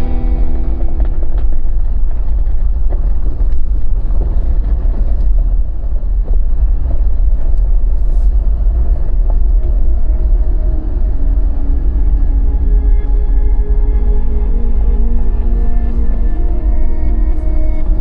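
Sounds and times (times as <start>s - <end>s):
engine and tyres rumbling: 0.0s - 18.0s.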